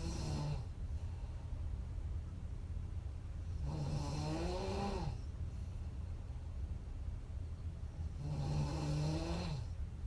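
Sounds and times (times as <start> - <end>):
low room rumble: 0.0 - 10.0.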